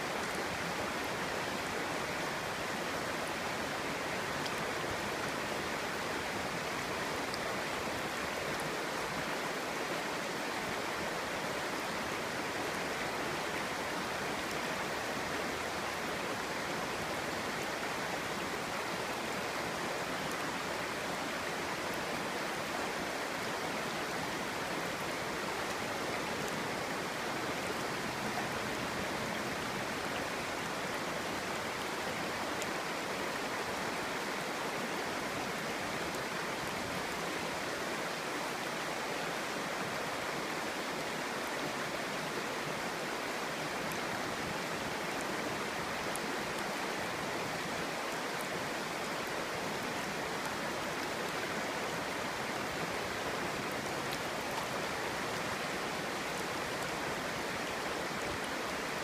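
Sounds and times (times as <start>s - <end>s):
stream burbling over stones: 0.0s - 59.0s.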